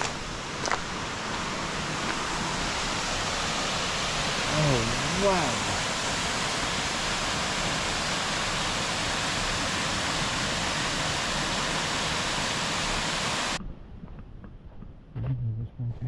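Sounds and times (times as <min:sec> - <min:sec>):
waterfall roaring: 0:00.0 - 0:13.6.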